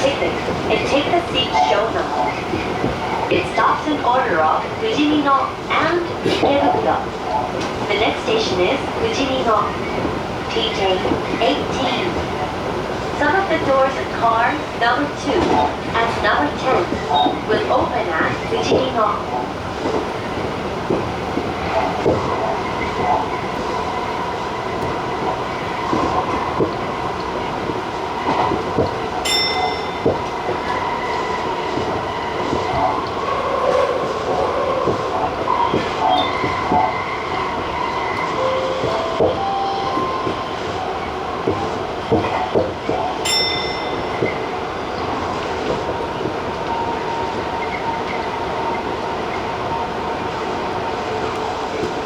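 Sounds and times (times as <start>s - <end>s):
train rolling noise: 0.0s - 52.0s.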